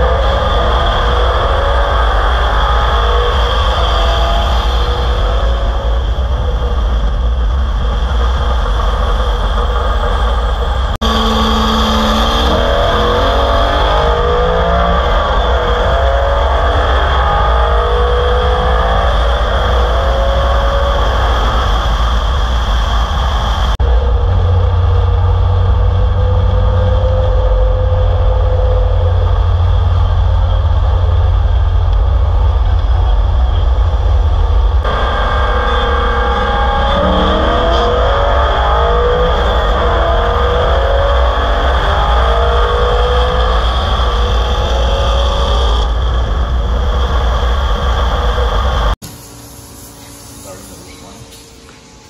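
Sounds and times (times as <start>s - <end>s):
car engine accelerating: 0.0s - 49.0s
wind noise on microphone: 0.0s - 49.0s.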